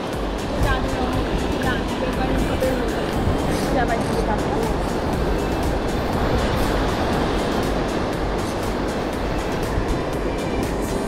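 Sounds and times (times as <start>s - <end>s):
music with a steady beat: 0.0s - 11.0s
surf rushing: 0.0s - 11.0s.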